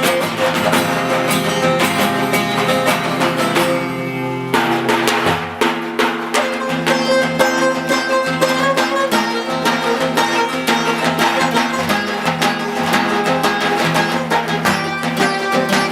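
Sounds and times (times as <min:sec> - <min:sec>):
fast plucked strings music: 0:00.0 - 0:15.9.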